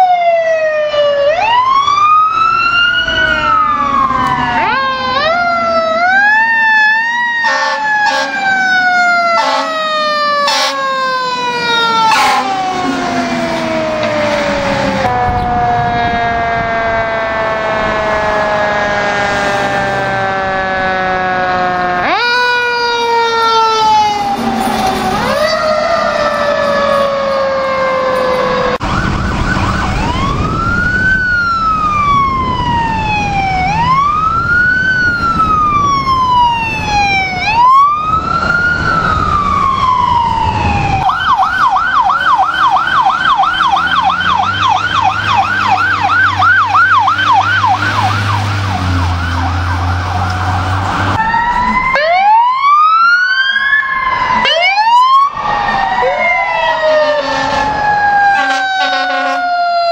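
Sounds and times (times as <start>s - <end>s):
siren wailing: 0.0s - 59.9s
siren yelping: 0.0s - 59.9s.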